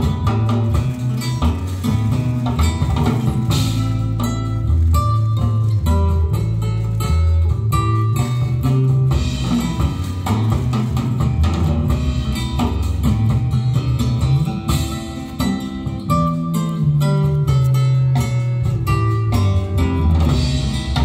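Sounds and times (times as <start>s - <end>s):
guitar bass and drum music: 0.0s - 21.0s.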